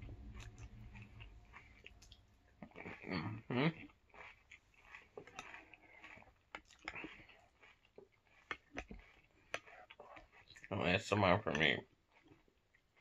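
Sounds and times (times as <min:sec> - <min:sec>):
chewing cereal: 0:00.0 - 0:13.0.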